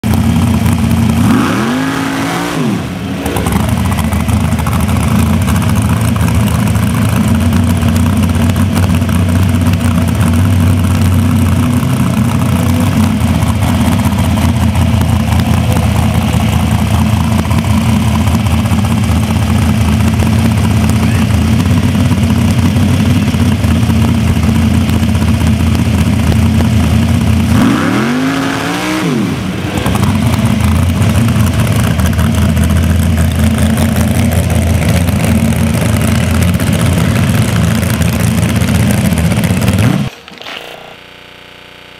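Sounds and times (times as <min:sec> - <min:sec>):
dragster engine at high revs: 0:00.0 - 0:40.2.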